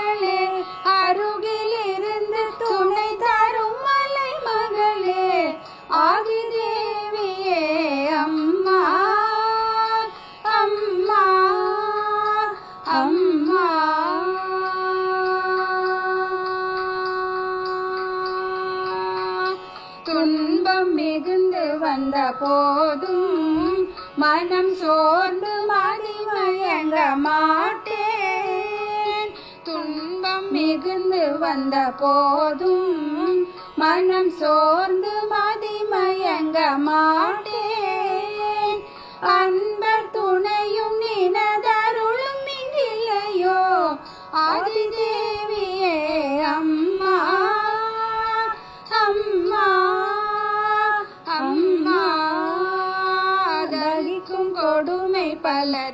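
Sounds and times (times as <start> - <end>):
women singing: 0.0 - 55.9.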